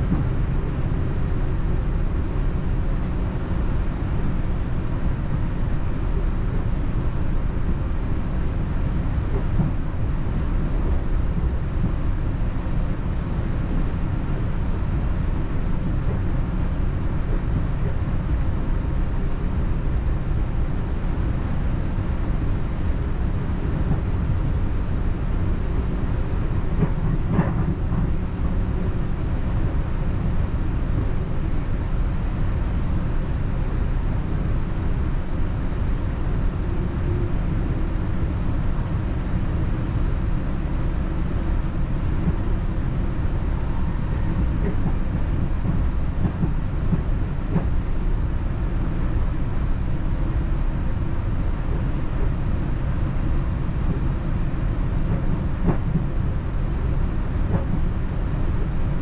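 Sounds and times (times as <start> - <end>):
train rumbling along track: 0.0 - 59.0.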